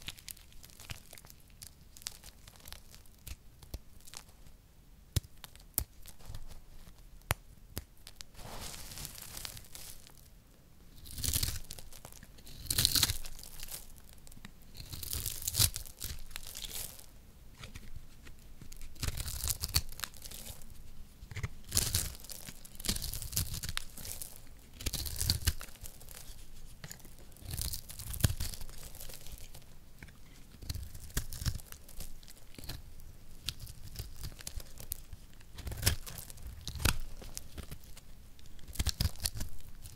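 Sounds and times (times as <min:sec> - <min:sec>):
soap crumbling between fingers: 0:00.0 - 0:04.4, 0:05.1 - 0:08.4, 0:11.0 - 0:39.9.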